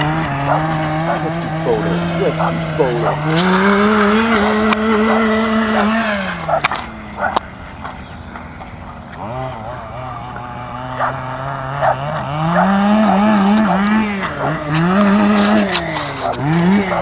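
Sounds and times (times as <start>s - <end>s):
radio-controlled car motor: 0.0s - 17.0s.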